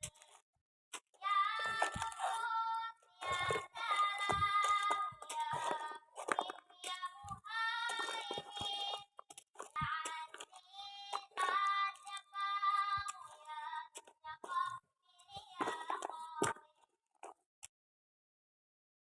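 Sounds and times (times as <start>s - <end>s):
handling crinkles and clicks: 0.0s - 0.4s, 1.0s - 17.5s
high-pitched singing: 1.2s - 16.8s.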